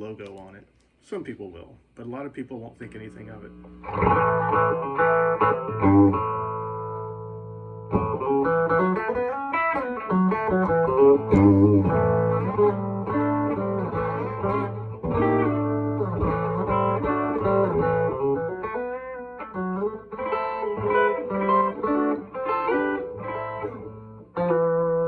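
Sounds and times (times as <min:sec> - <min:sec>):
bluesy electric guitar: 0:03.4 - 0:25.0.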